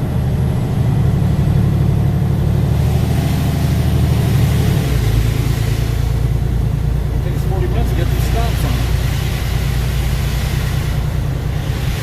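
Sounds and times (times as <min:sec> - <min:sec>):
truck engine drone: 0:00.0 - 0:12.0
tyre and road noise: 0:00.0 - 0:12.0.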